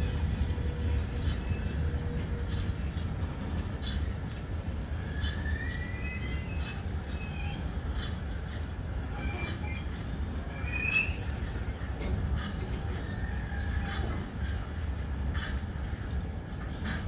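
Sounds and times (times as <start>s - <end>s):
train wheels squealing: 0.0s - 15.8s
train wagons rumbling past: 0.0s - 17.0s.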